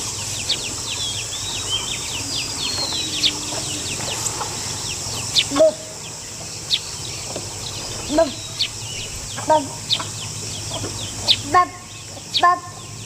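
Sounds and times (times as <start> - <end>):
birds chirping: 0.0 - 13.0
high-pitched insect drone: 0.0 - 13.0
lower bird call: 0.0 - 13.0.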